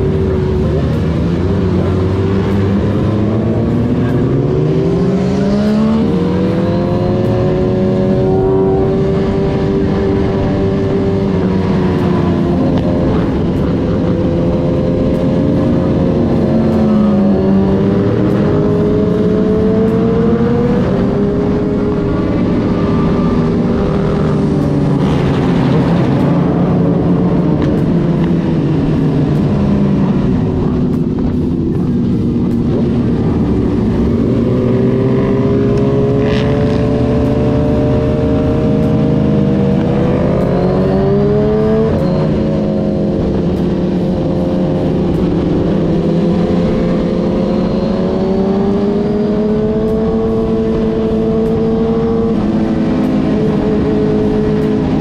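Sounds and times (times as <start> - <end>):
motorcycle engine accelerating: 0.0 - 55.0
motorcycle engines running: 0.0 - 55.0.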